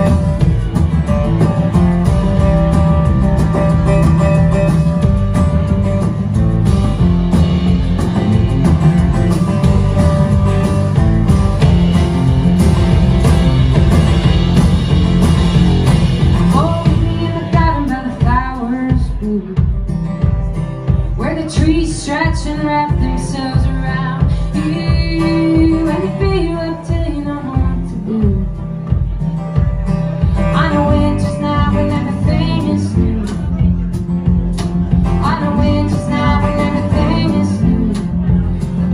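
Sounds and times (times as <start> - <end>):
plucked upright bass: 0.0 - 19.0, 23.0 - 38.9
drums: 0.0 - 38.9
strummed acoustic guitar: 0.0 - 38.9.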